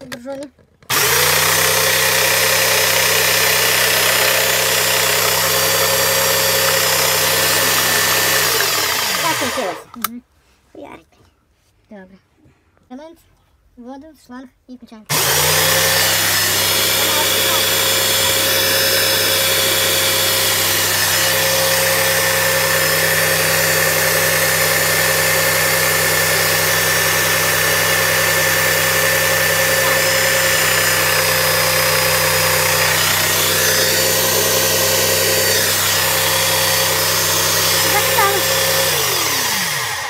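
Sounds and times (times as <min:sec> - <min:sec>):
airless paint sprayer running: 0:00.9 - 0:09.9, 0:15.1 - 0:40.0.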